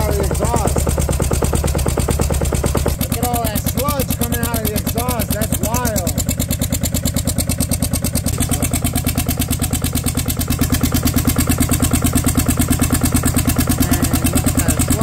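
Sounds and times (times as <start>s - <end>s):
diesel engine chugging: 0.0s - 15.0s.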